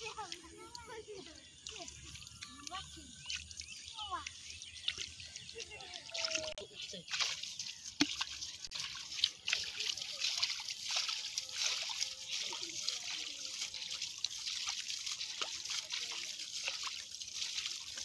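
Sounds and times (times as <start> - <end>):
muddy water splashing: 0.0 - 18.0
water dripping: 0.0 - 18.0.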